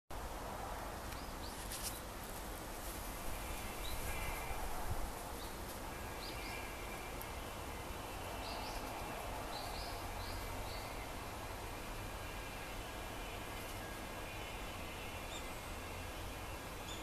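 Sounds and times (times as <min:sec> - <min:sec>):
steady background hiss: 0:00.1 - 0:17.0.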